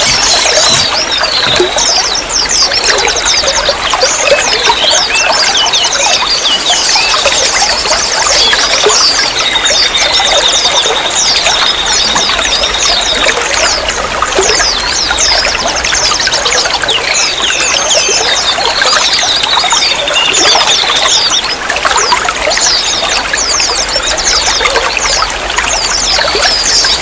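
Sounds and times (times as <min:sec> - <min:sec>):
bird chirps: 0:00.0 - 0:27.0
water trickling and pouring: 0:00.0 - 0:27.0.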